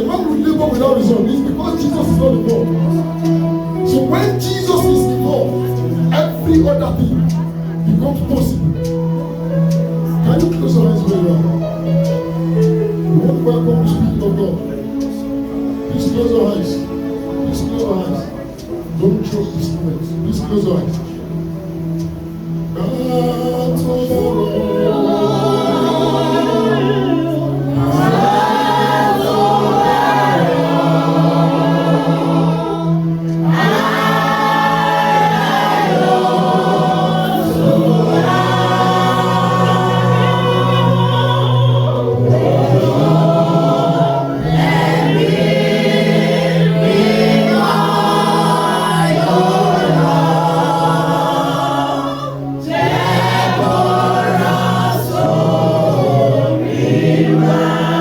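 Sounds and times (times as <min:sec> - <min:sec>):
choir and congregation singing: 0:00.0 - 0:58.0
held low chords: 0:00.0 - 0:58.0.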